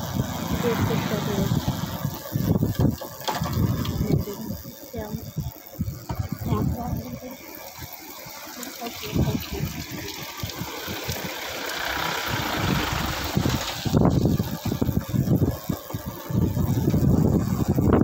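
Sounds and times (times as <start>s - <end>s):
wind buffeting microphone: 0.0s - 7.3s, 8.8s - 18.0s.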